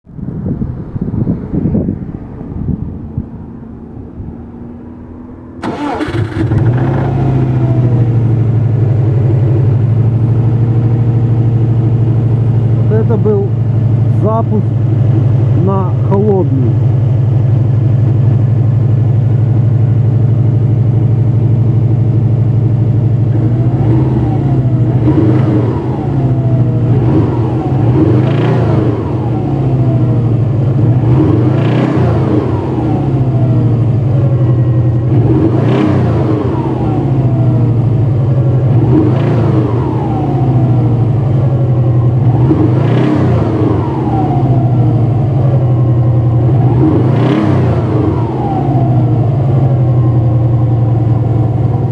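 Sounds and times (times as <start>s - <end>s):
car engine revving: 0.5s - 16.8s, 20.9s - 51.9s.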